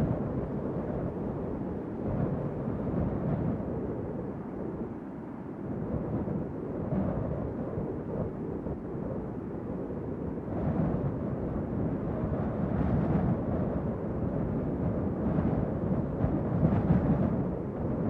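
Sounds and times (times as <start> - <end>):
low continuous rumbling: 0.0 - 18.0.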